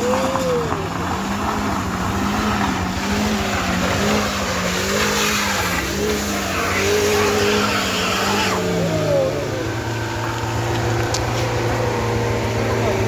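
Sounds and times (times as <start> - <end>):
heavy truck engine droning: 0.0 - 13.0.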